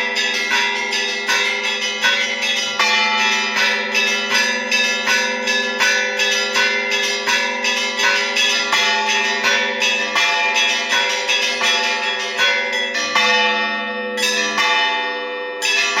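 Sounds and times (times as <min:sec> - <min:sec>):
hum of larger bells: 0:00.0 - 0:16.0
small church bells struck rapidly: 0:00.0 - 0:16.0.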